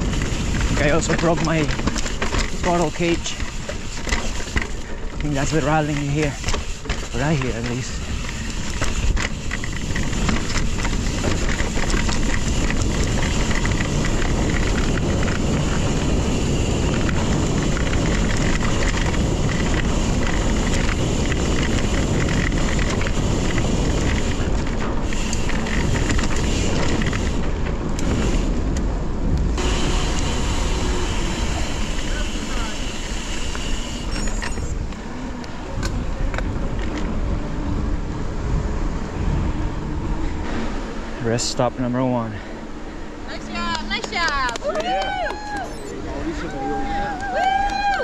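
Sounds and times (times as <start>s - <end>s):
bicycle tyre and drivetrain noise: 0.0s - 48.0s
wind buffeting microphone: 0.0s - 48.0s.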